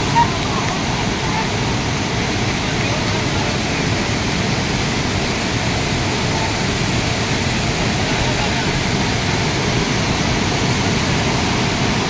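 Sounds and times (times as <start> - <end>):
white water rushing over rapids: 0.0 - 12.0.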